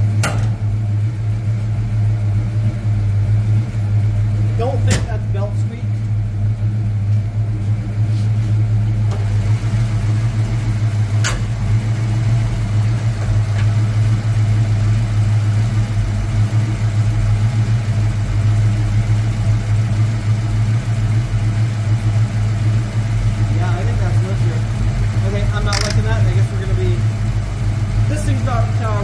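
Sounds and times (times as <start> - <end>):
car engine idling: 0.0 - 29.0
engine ticking: 0.0 - 29.0.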